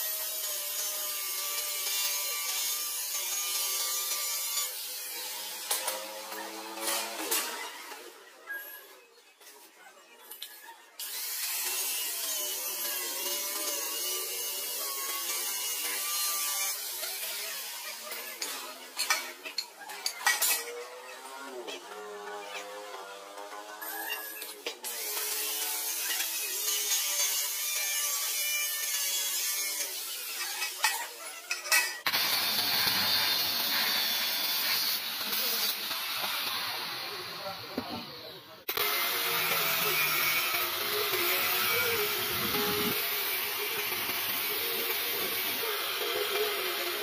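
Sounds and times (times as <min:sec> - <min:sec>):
angle grinder cutting steel: 0:00.0 - 0:08.9, 0:10.5 - 0:47.0.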